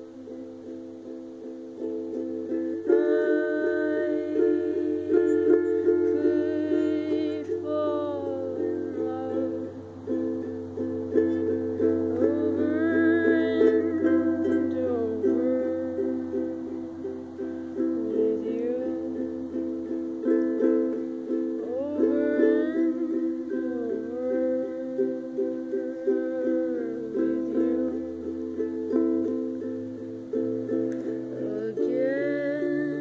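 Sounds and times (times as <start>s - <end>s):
plucked-string chords: 0.0s - 33.0s
sliding melody line: 1.7s - 33.0s.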